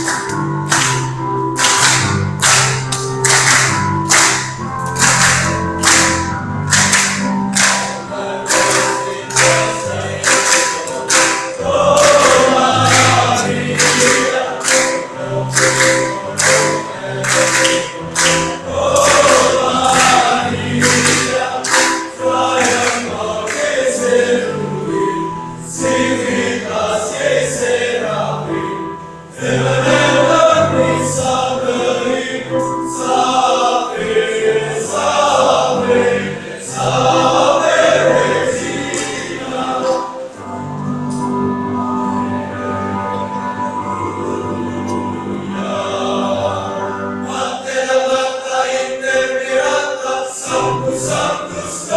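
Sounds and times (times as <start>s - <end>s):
choir of young men singing: 7.2s - 40.5s, 42.3s - 51.9s.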